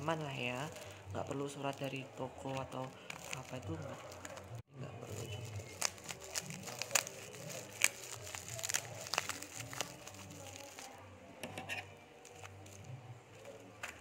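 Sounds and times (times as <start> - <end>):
plastic wrapping crinkling: 0.0 - 11.0, 12.2 - 14.0.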